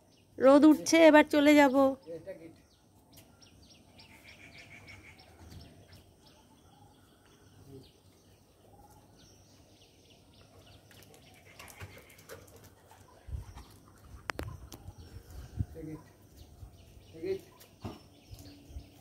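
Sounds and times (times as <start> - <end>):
distant birds chirping: 0.0 - 19.0.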